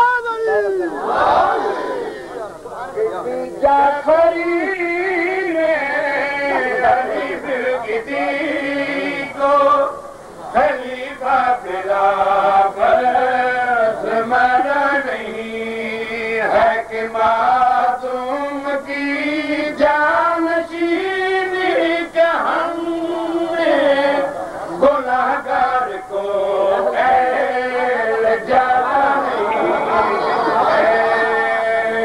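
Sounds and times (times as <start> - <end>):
man chanting verse: 0.0 - 32.0.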